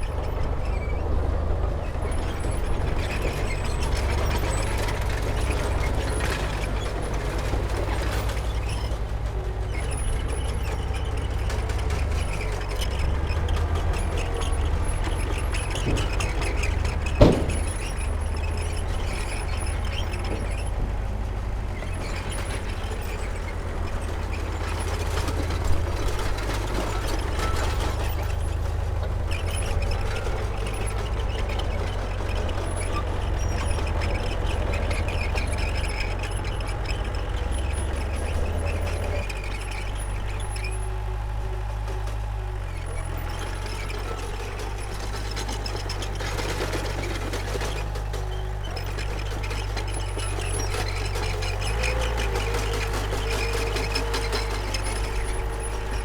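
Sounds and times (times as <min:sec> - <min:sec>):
diesel machinery engine rumble: 0:00.0 - 0:56.0.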